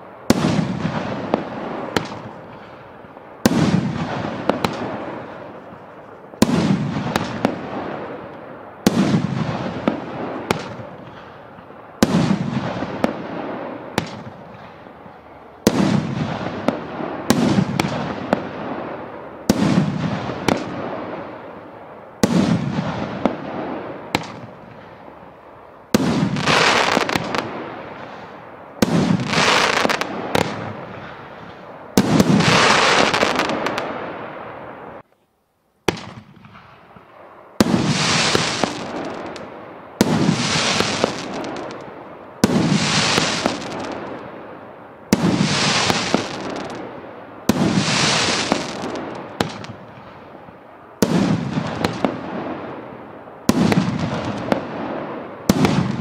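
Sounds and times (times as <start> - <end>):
firework bangs: 0.0 - 35.0, 35.8 - 56.0
firework crackling: 0.0 - 35.0, 35.8 - 56.0.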